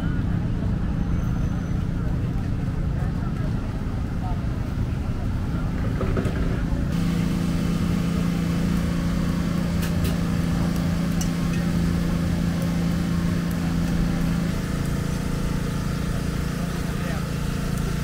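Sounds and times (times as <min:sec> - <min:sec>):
low engine drone: 0:00.0 - 0:18.0.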